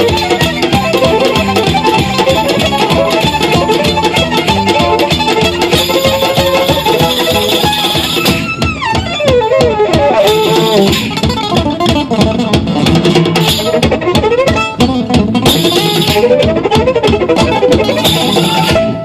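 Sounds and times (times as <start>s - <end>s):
fast fluttering string music: 0.0s - 19.0s
quick plucked string notes: 0.0s - 19.0s.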